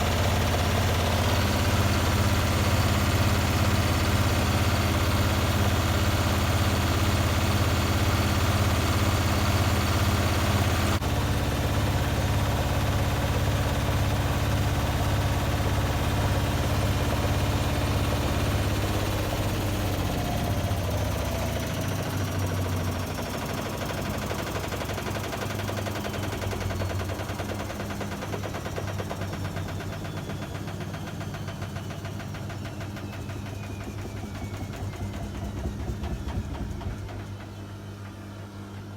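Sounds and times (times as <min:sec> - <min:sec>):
washing machine motor whine: 0:00.0 - 0:38.9.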